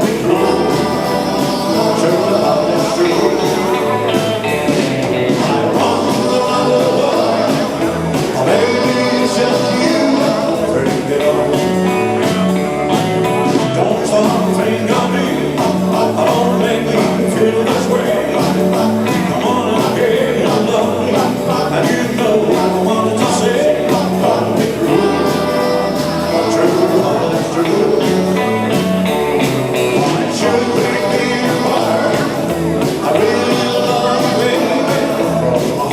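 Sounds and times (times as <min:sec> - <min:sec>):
person singing: 0:00.0 - 0:12.6, 0:13.4 - 0:35.9
live rock and roll band: 0:00.0 - 0:35.9
steady bass line: 0:00.0 - 0:35.9.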